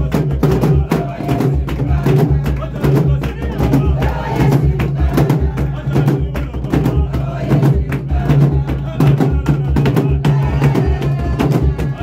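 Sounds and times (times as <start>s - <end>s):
large hand drums beating: 0.0s - 12.0s.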